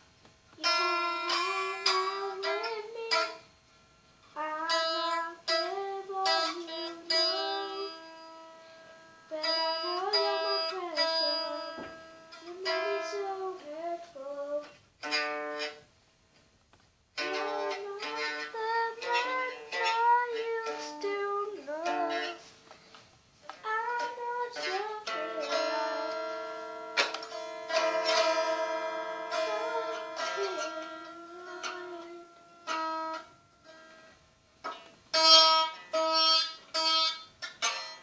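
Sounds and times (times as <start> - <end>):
guitar melody: 0.6 - 3.5, 4.2 - 15.9, 17.2 - 22.9, 23.5 - 38.0.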